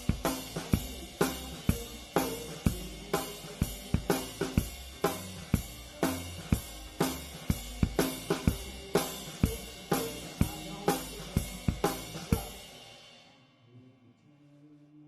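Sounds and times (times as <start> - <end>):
drum hits: 0.0 - 12.8.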